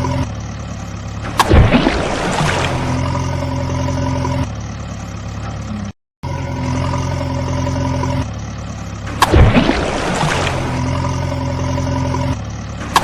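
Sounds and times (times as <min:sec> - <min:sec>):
low vehicle engine hum: 0:00.0 - 0:13.0.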